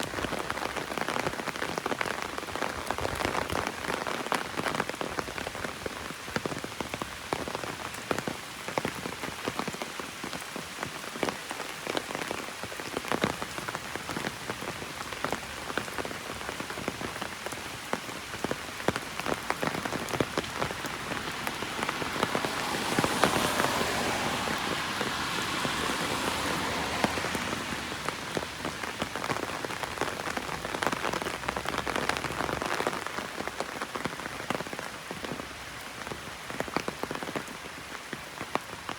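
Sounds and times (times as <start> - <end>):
rain pattering on umbrella: 0.0 - 38.9.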